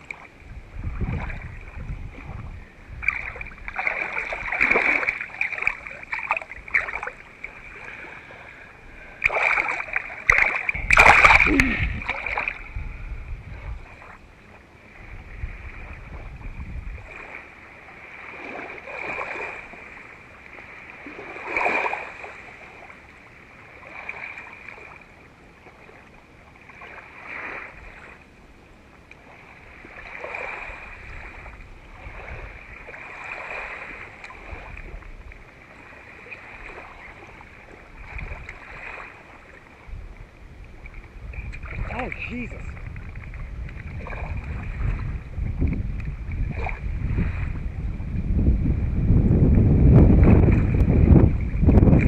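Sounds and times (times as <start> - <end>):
wind rumble on microphone: 0.0 - 22.9, 29.3 - 52.0
small waves lapping: 0.0 - 52.0.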